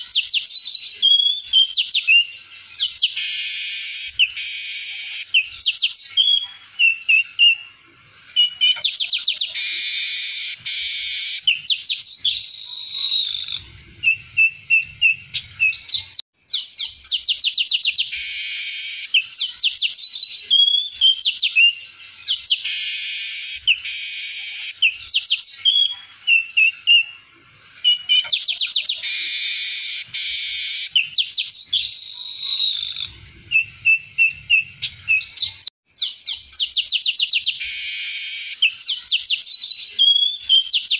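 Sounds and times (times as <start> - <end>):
bird singing buzzy phrases: 0.0 - 40.9.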